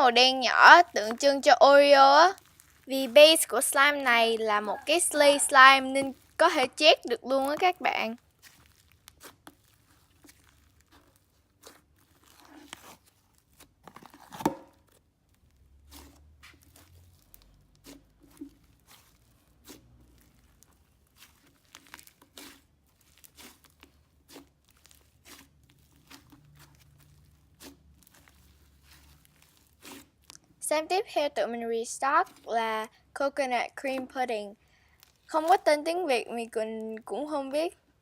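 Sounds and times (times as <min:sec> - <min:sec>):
slime crackling and popping: 0:00.0 - 0:30.6, 0:32.2 - 0:32.5, 0:34.8 - 0:38.0.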